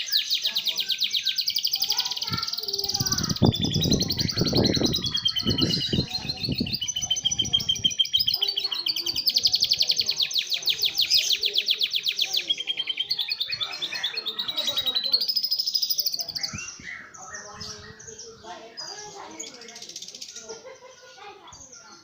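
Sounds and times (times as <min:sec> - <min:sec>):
canary singing rapid trills: 0:00.0 - 0:22.0.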